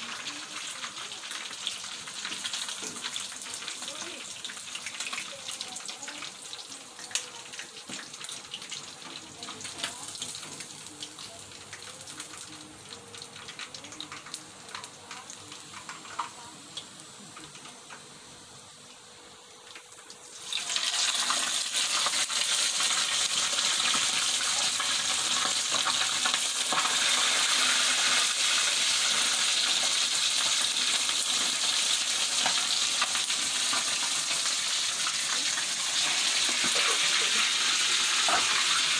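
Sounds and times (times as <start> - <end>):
chicken deep-frying in oil: 0.0 - 38.9.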